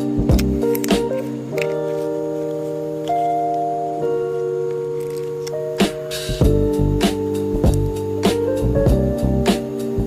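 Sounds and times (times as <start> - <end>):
held music chords: 0.0 - 10.0.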